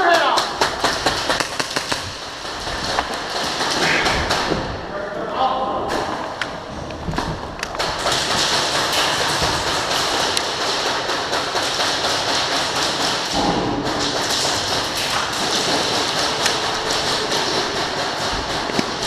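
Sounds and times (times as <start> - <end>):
pellets striking walls: 0.0 - 4.8, 7.8 - 19.0
airsoft gunfire: 0.3 - 4.7, 7.8 - 19.0.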